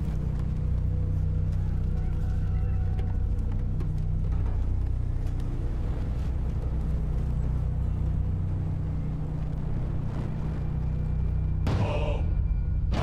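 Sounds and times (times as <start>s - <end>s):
low bass drone: 0.0s - 13.0s.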